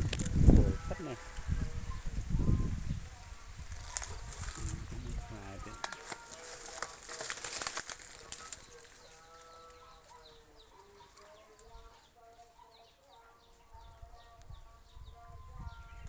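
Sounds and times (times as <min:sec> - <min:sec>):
rustling and crackling: 0:00.0 - 0:14.4.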